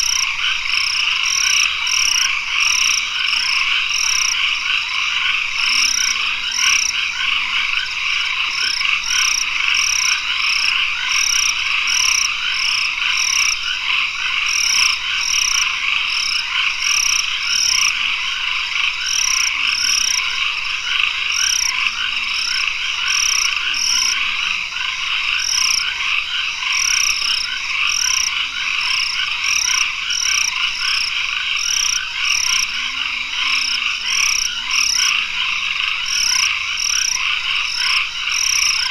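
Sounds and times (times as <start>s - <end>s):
frogs trilling chorus: 0.0s - 38.9s.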